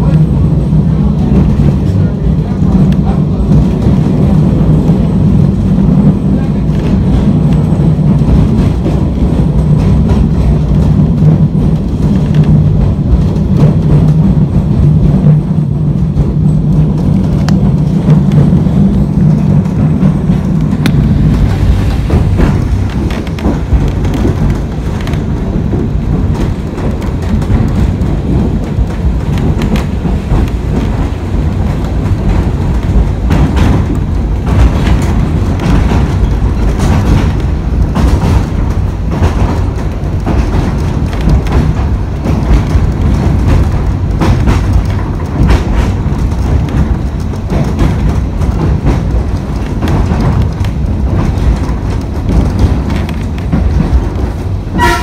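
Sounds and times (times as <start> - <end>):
tram running along track: 0.0 - 55.0
wheels clicking over rails: 0.0 - 55.0.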